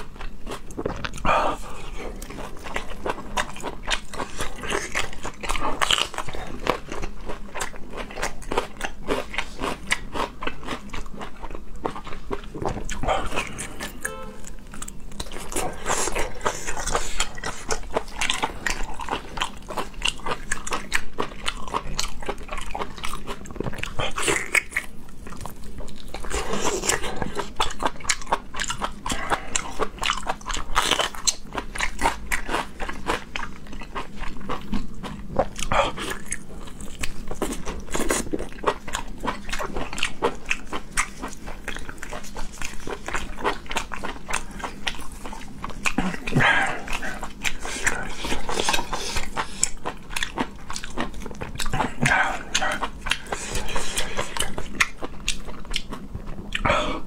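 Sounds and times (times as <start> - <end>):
chewing sausages with mouth clicks: 0.0 - 57.0.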